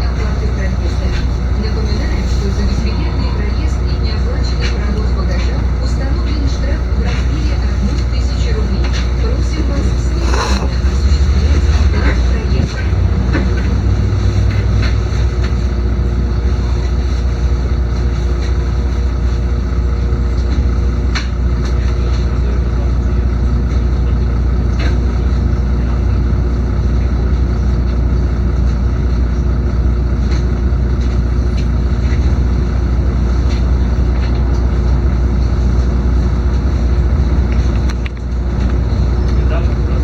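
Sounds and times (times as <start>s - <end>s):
bus diesel engine drone: 0.0s - 40.0s.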